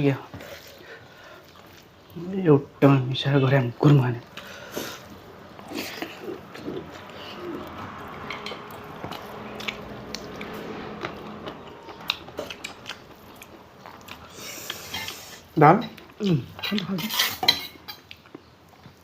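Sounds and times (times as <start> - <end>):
person chewing food: 0.2 - 2.2, 3.8 - 17.0, 17.7 - 19.0.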